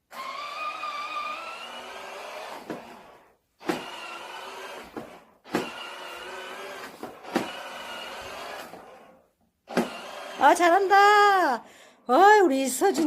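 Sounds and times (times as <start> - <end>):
toy motorcycle motor whining: 0.1 - 11.1.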